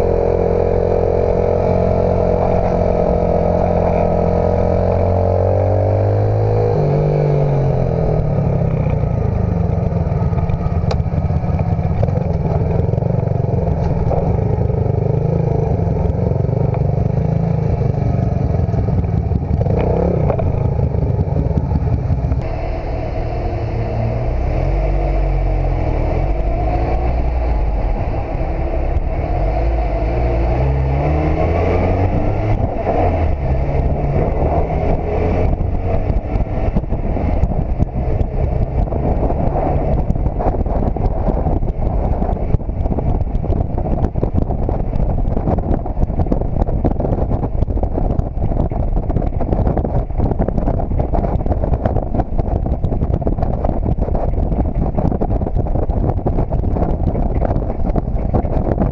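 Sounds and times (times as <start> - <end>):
car engine accelerating: 0.0 - 58.9
wind buffeting microphone: 0.0 - 58.9.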